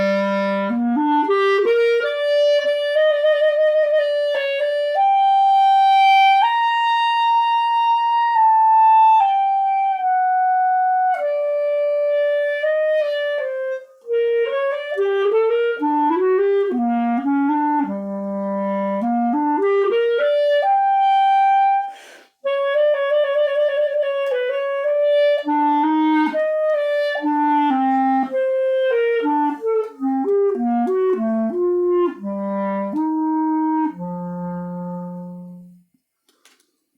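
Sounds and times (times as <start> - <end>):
clarinet playing: 0.0 - 35.9.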